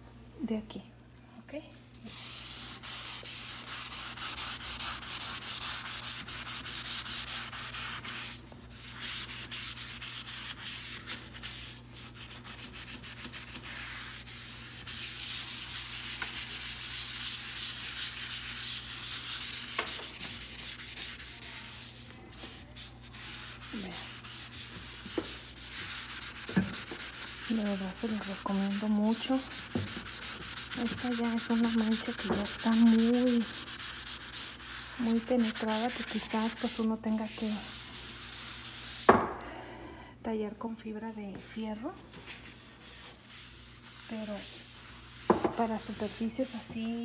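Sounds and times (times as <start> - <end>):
sponge scrubbing wet steel stovetop: 2.0 - 39.1, 41.4 - 47.0.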